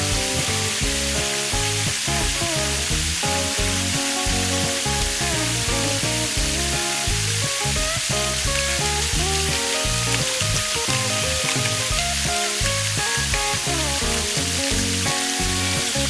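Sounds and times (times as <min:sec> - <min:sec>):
background music: 0:00.0 - 0:16.0
rushing stream water: 0:00.0 - 0:16.0.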